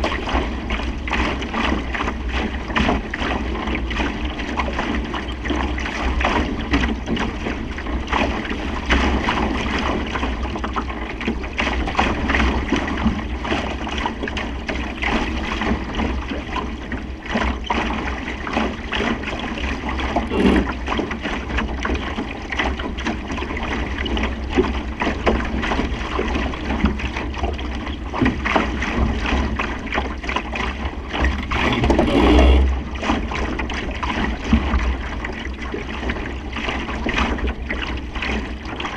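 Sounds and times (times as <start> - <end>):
water slapping against hull: 0.0 - 38.9.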